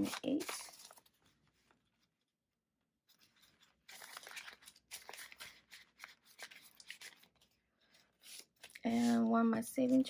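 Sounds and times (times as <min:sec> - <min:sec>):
banknotes and plastic pouch rustling: 0:00.0 - 0:02.2, 0:03.1 - 0:10.0.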